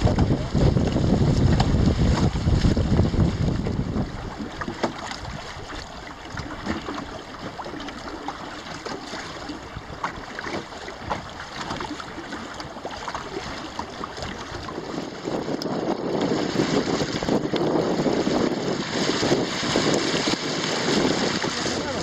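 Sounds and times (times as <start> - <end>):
water splashing against boat hull: 0.0 - 22.0
wind rumble on microphone: 0.0 - 22.0.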